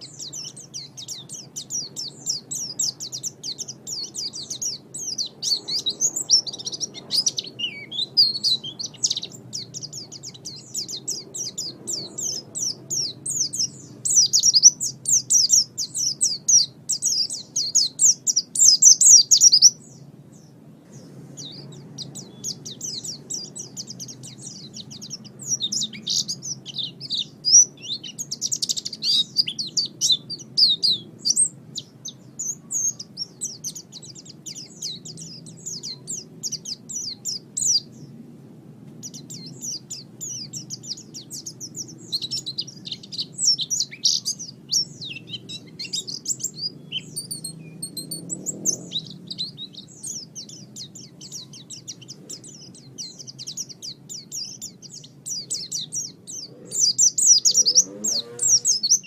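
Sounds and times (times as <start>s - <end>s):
songbird chattering song: 0.0s - 59.0s.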